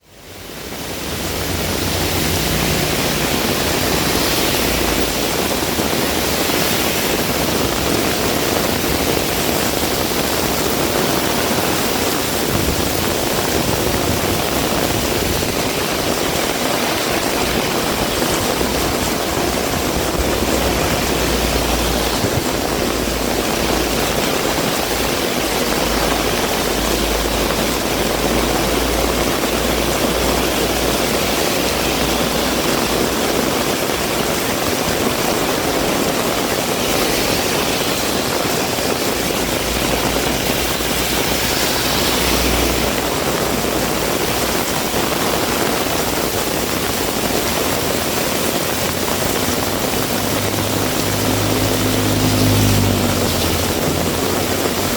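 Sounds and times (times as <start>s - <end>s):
heavy rain pouring: 0.0s - 54.9s
strong wind rumble: 0.0s - 54.9s.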